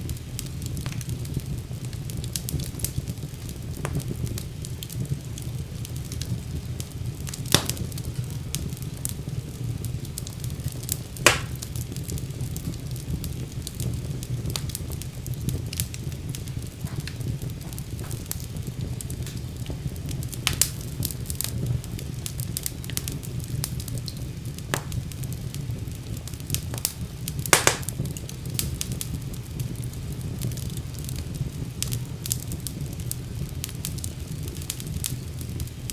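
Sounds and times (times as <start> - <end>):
fire crackling and popping: 0.0 - 35.9
low rumble of flames: 0.0 - 35.9.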